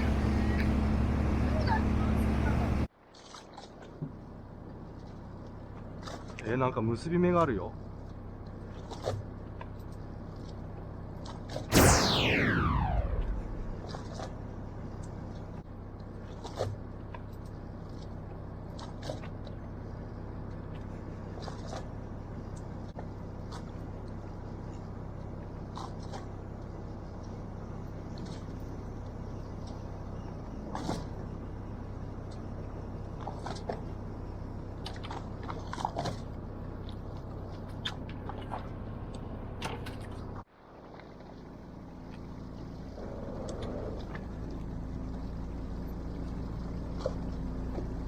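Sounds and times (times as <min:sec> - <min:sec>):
boat engine humming: 0:00.0 - 0:11.5, 0:13.8 - 0:48.0.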